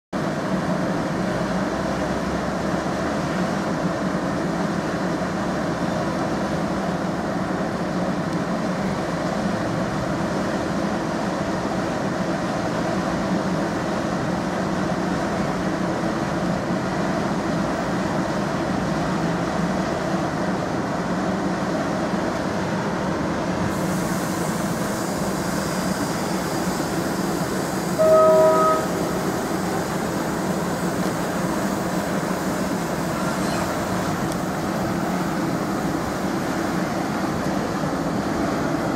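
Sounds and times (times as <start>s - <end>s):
train engine humming: 0.2s - 38.9s.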